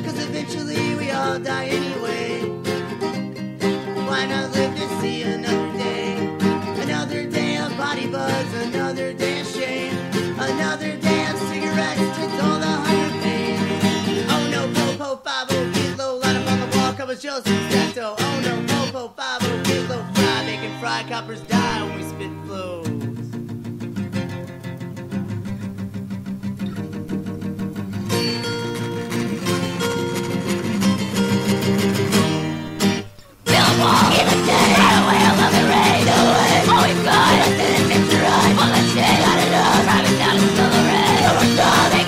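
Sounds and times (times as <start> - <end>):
fast strummed acoustic guitar: 0.0 - 42.0
folk punk song: 0.0 - 42.0.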